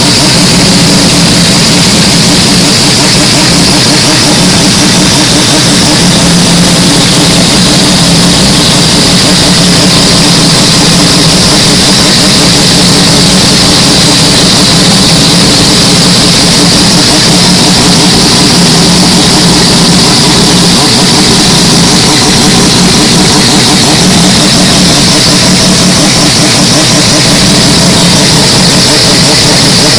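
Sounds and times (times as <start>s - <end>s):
rotary engine running: 0.0s - 29.9s.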